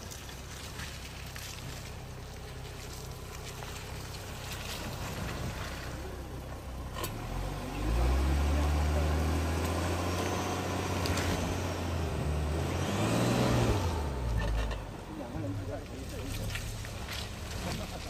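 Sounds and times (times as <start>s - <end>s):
engine pulling under load: 0.0s - 18.0s.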